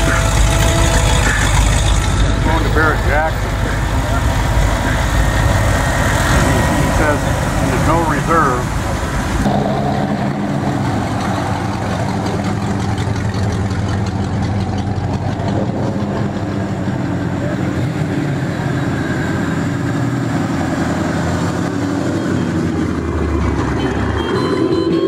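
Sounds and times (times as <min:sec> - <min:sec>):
car engines running at low speed: 0:00.0 - 0:25.0.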